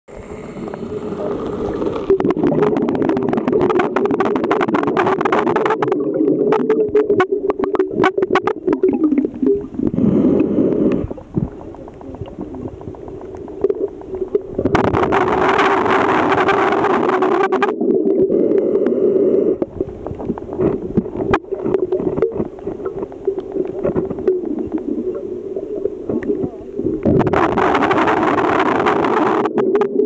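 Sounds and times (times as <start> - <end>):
underwater hum: 0.1 - 30.0
underwater clicks and crackles: 0.5 - 30.0.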